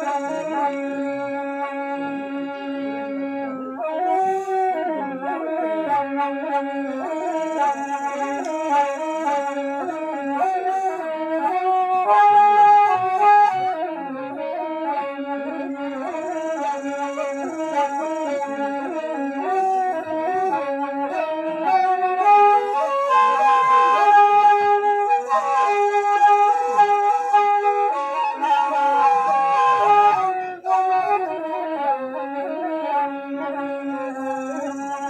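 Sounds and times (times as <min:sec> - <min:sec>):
bamboo flute melody: 0:00.0 - 0:35.0.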